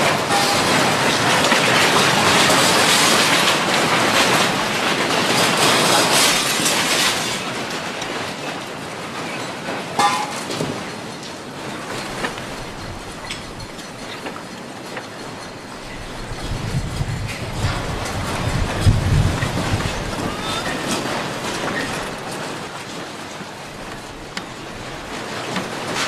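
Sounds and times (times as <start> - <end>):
building rumbling and rattling: 0.0 - 26.0.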